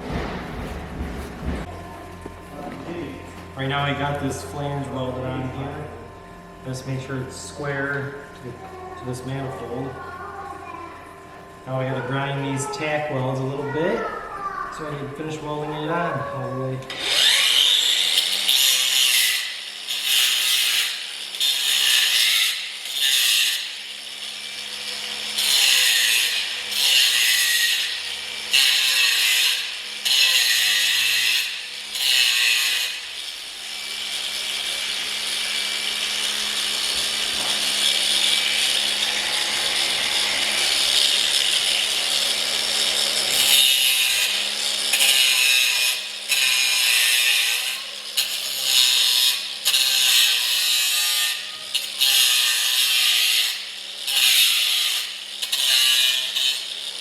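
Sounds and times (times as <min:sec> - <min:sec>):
electric grinder grinding metal: 0:00.0 - 0:57.0.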